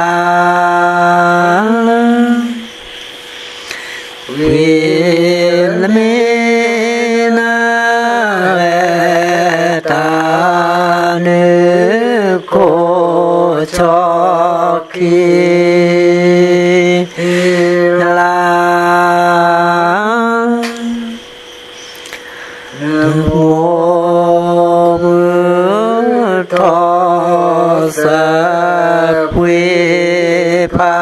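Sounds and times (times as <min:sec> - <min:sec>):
man chanting: 0:00.0 - 0:02.8, 0:04.1 - 0:21.3, 0:22.6 - 0:31.0.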